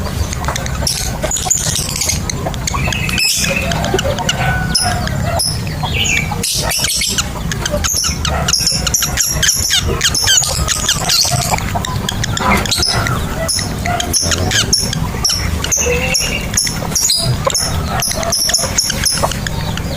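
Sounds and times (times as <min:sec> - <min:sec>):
birds chirping and whistling: 0:00.0 - 0:19.9
steady low hum: 0:00.0 - 0:19.9.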